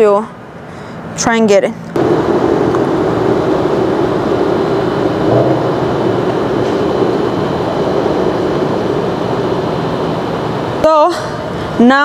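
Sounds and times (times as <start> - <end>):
cars passing: 0.1 - 11.8.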